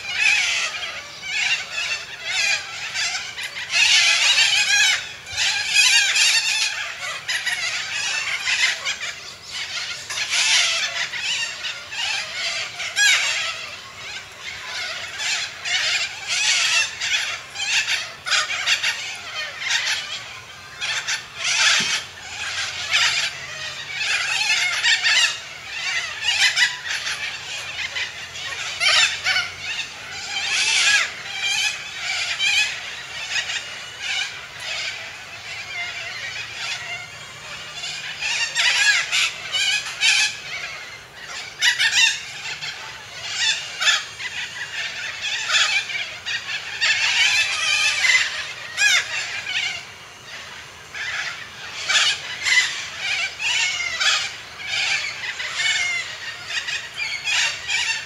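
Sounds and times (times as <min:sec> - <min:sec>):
cockatoo screeching: 0:00.0 - 0:58.0.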